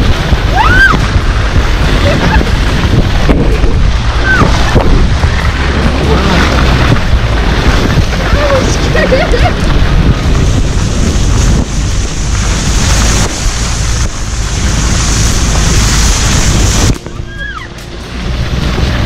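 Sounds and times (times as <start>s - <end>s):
car driving rumble: 0.0s - 19.0s
wind buffeting microphone: 0.0s - 19.0s.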